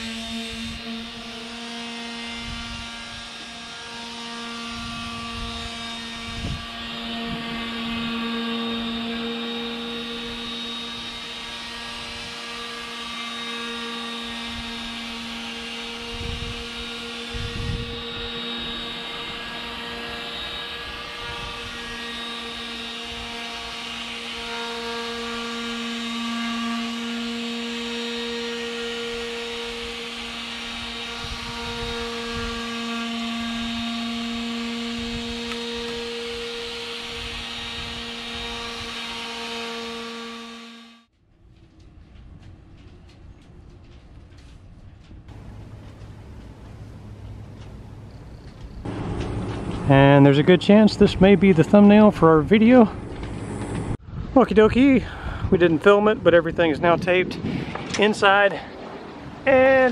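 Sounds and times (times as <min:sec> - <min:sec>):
motor humming whine: 0:00.0 - 0:59.9.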